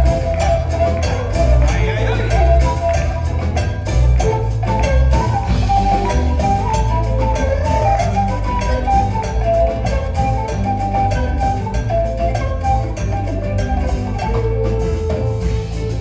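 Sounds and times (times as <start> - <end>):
live ensemble music: 0.0 - 16.0.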